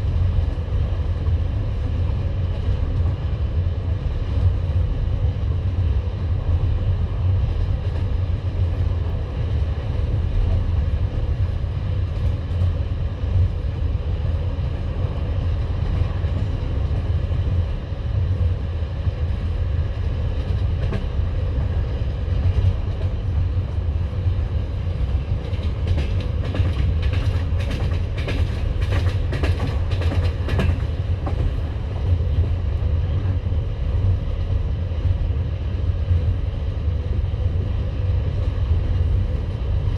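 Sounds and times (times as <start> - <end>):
train carriage rumble: 0.0 - 39.9.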